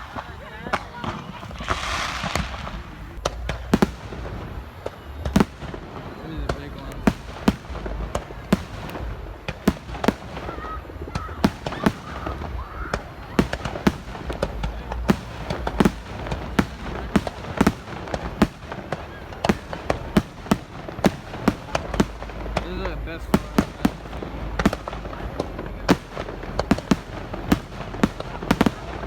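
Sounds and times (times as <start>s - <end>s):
fireworks bangs and pops: 0.0s - 29.0s
low background rumble: 0.0s - 29.0s.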